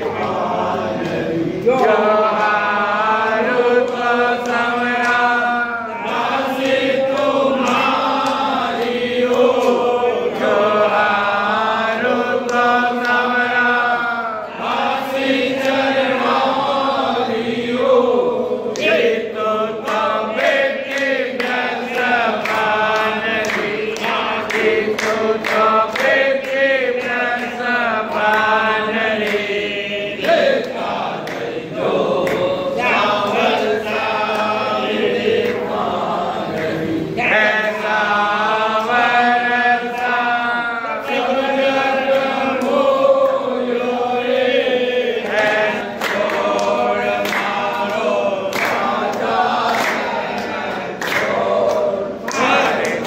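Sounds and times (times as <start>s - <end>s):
group of voices chanting: 0.0s - 53.0s.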